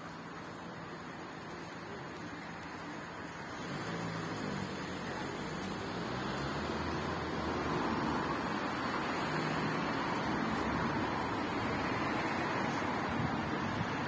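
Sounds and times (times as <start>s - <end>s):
cars passing on city street: 0.0s - 14.0s.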